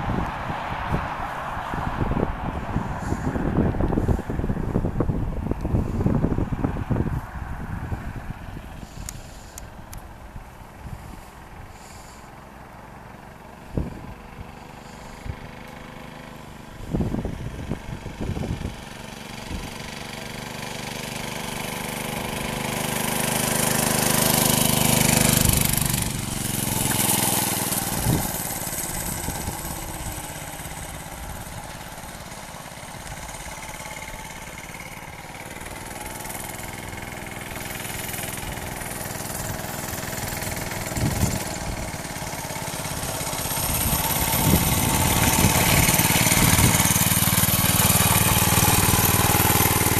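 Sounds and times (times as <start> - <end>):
mini bike engine passing: 0.0 - 49.9.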